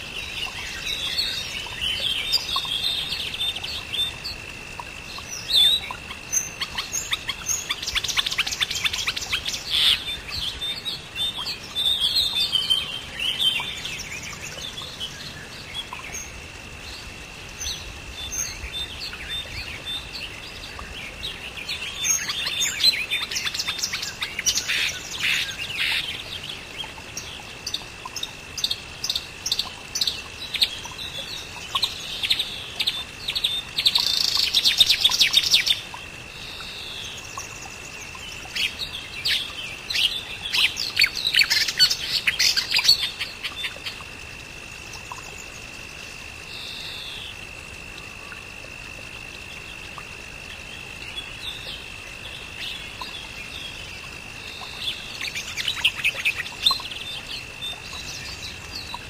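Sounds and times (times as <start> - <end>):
small birds chirping: 0.0 - 44.1, 49.2 - 59.0.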